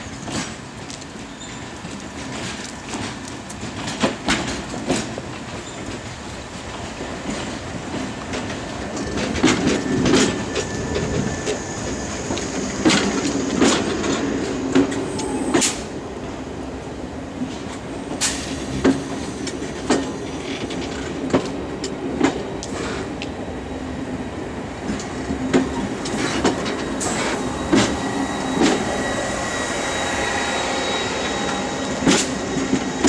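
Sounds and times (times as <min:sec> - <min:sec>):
train running hum: 0:00.0 - 0:33.0
train wheels clacking over rail joint: 0:00.2 - 0:15.9, 0:17.5 - 0:23.3, 0:24.8 - 0:30.0, 0:31.0 - 0:33.0.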